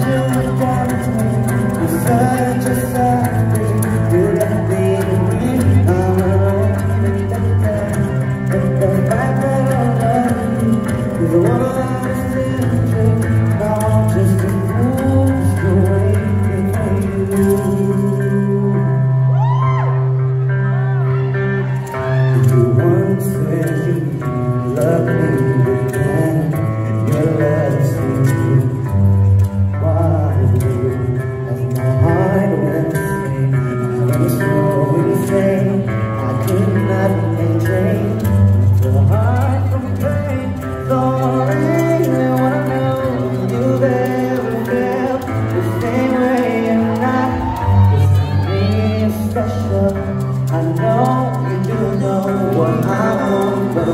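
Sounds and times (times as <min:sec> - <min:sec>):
man singing into a microphone: 0:00.0 - 0:21.2, 0:21.8 - 0:53.9
bass guitar: 0:00.0 - 0:53.9
electric guitar: 0:00.0 - 0:53.9.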